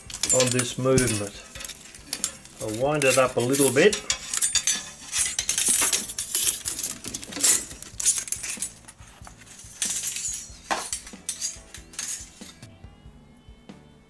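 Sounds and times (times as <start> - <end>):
metal spring clinking and scraping: 0.0 - 12.7.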